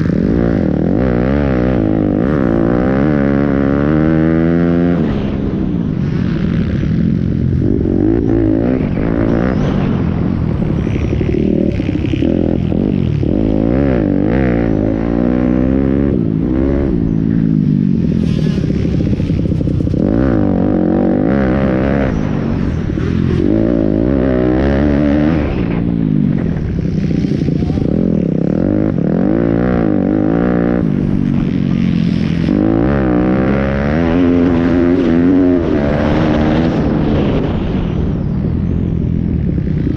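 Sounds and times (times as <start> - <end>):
small motorcycle engines revving: 0.0 - 39.9.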